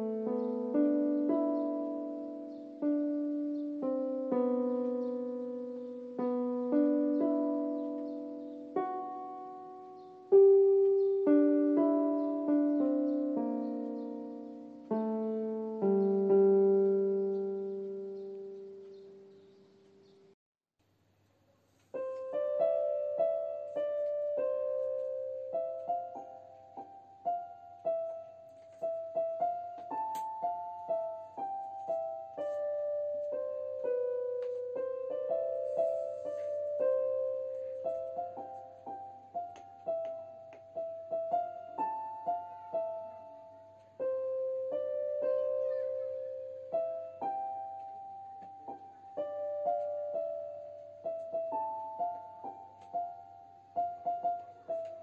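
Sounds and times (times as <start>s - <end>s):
gentle piano melody: 0.0s - 20.4s, 21.6s - 55.0s.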